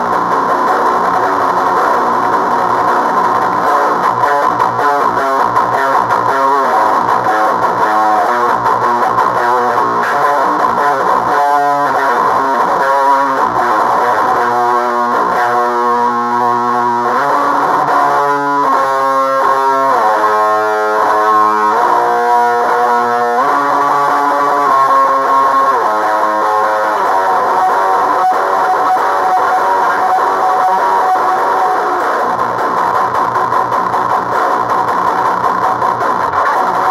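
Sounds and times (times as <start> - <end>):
heavily distorted electric guitar riffing: 0.0 - 36.9.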